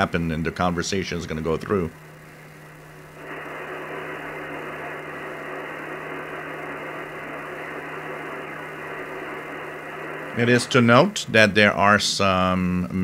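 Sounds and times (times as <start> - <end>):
low steady hum: 0.0 - 13.0
radio static hiss: 0.0 - 13.0.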